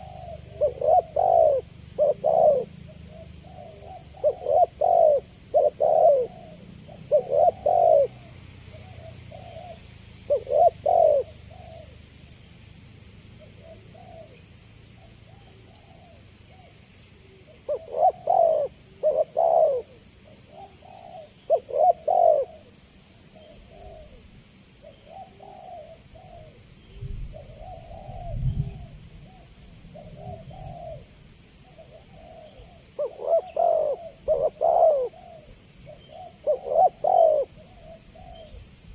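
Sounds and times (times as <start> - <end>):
doves cooing: 0.0 - 12.1, 13.4 - 38.9.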